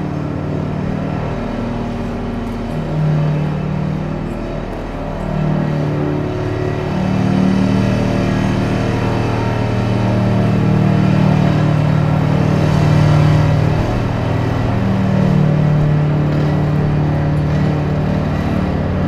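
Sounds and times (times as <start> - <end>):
diesel construction machinery drone: 0.0 - 19.0.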